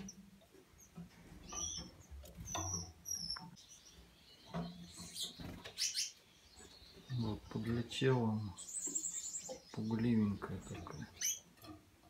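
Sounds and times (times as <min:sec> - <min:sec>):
finches chirping: 0:00.0 - 0:11.8.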